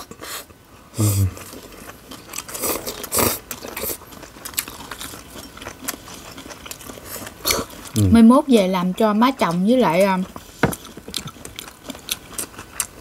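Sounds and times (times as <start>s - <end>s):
crunching and wet chewing: 1.2s - 8.2s, 8.8s - 13.0s.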